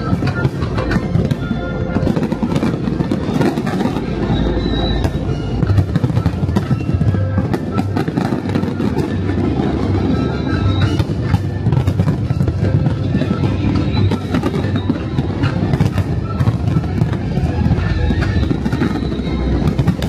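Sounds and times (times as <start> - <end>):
fireworks popping and crackling: 0.0 - 20.0
loud music: 0.0 - 20.0.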